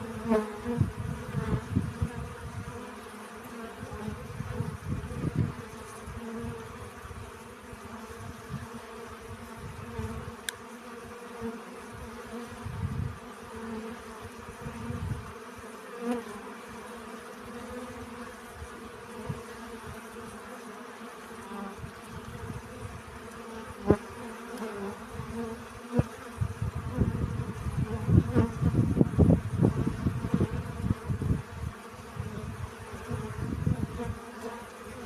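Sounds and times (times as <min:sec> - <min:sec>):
bees buzzing: 0:00.0 - 0:35.0.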